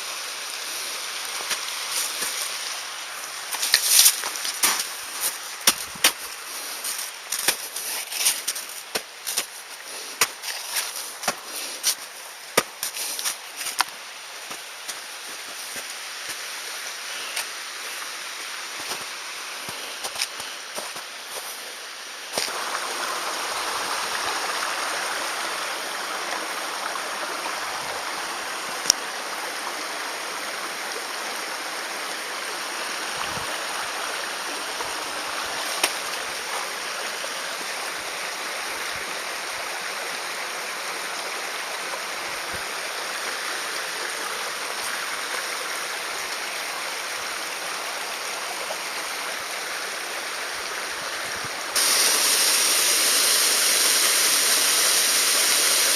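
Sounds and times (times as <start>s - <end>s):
mountain stream rushing: 0.0s - 55.9s.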